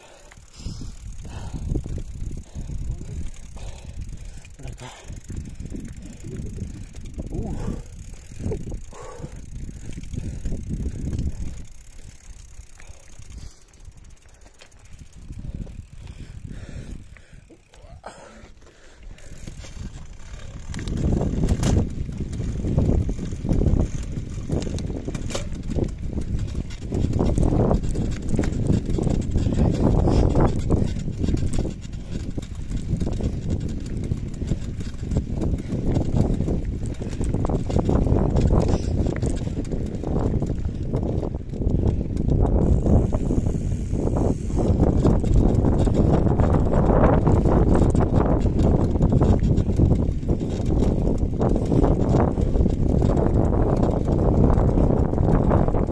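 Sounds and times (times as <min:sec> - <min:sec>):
rear hub freewheel ticking: 0:00.0 - 0:18.0, 0:18.9 - 0:55.9
wind rumble on microphone: 0:00.0 - 0:18.0, 0:19.0 - 0:55.9
bike rattling: 0:00.0 - 0:55.9
bike tyres crunching on gravel: 0:00.0 - 0:55.9.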